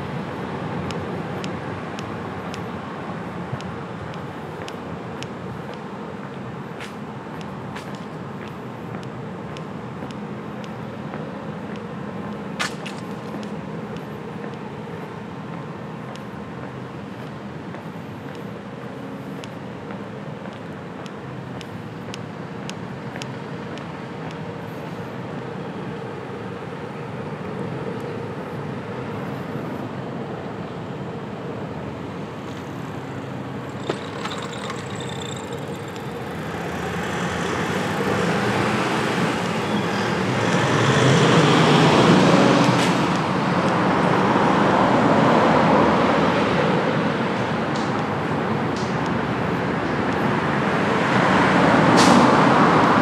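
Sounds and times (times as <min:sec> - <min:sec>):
low traffic hum: 0:00.0 - 0:53.0
vehicles passing close by: 0:00.0 - 0:53.0.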